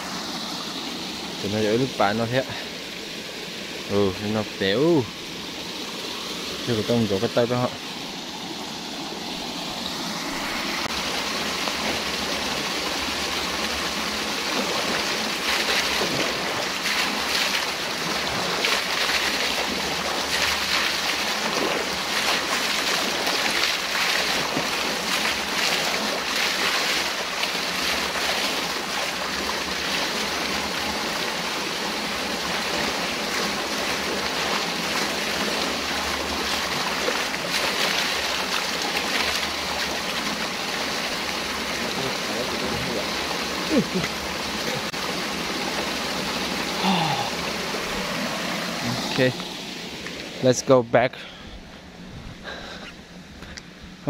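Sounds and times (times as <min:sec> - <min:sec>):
water rushing over weir: 0:00.0 - 0:51.1.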